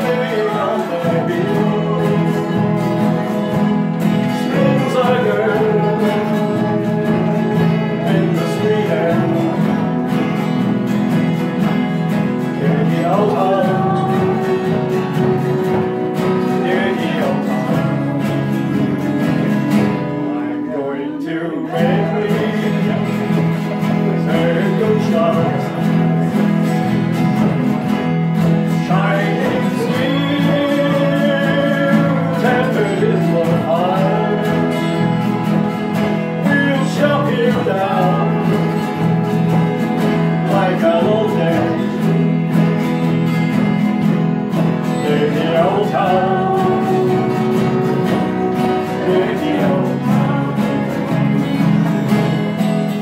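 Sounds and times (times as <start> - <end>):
folk band playing: 0.0 - 53.0
strummed acoustic guitars: 0.0 - 53.0.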